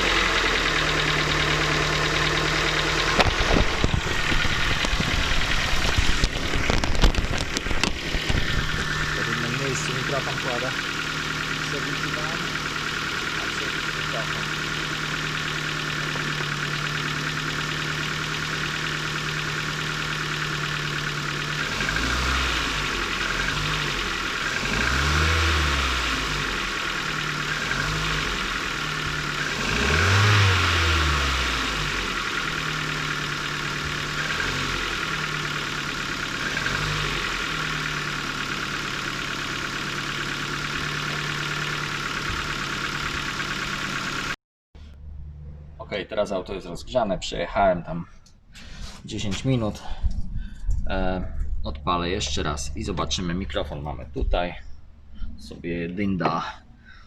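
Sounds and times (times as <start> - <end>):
car engine idling and revving: 0.0 - 46.4, 48.2 - 57.0.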